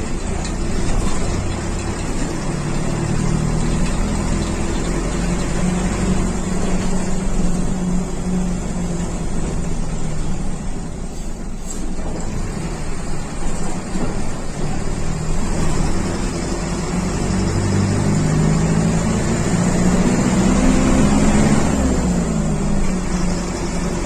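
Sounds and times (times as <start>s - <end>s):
bus diesel engine droning: 0.0s - 24.0s.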